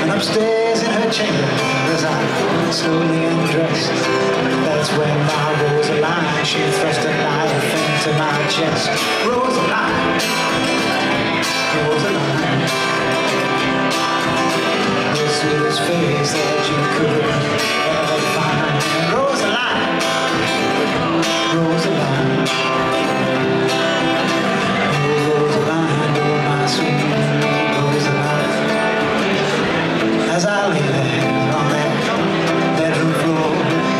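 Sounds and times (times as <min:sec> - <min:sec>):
acoustic guitar strumming: 0:00.0 - 0:33.9
man singing: 0:00.0 - 0:33.9.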